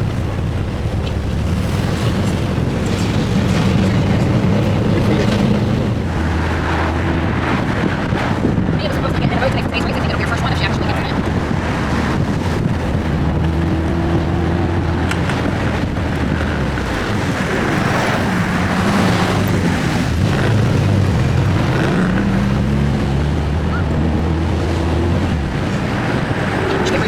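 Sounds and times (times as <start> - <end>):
car engine revving: 0.0 - 27.0
wind and road noise: 0.0 - 27.0.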